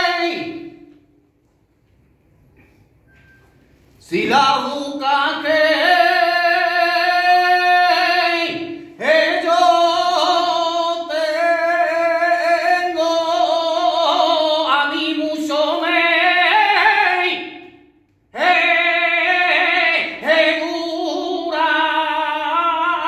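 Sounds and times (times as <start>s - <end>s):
man singing unaccompanied: 0.0s - 0.9s, 4.0s - 23.0s.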